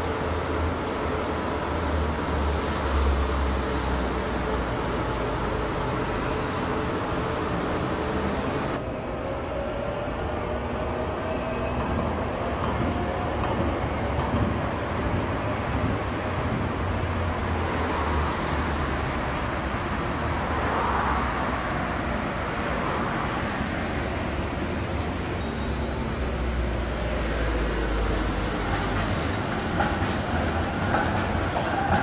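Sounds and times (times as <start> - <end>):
road traffic: 0.0 - 32.0
tram rumbling: 0.0 - 32.0.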